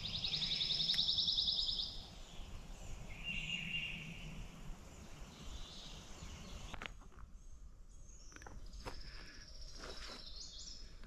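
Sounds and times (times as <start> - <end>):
songbirds calling: 0.0 - 11.0.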